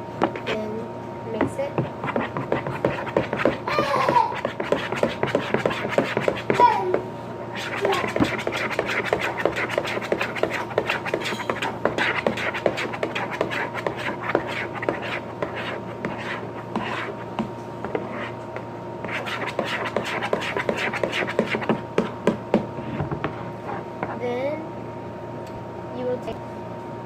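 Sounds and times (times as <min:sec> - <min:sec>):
slime stirred in a bowl: 0:01.4 - 0:06.7, 0:07.5 - 0:24.2.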